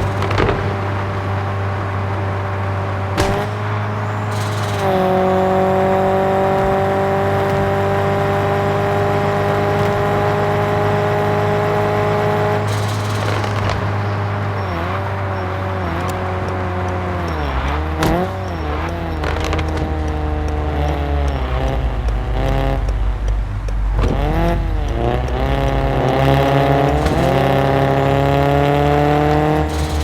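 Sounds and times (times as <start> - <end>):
car exhaust idling with deep drone: 0.0 - 30.0.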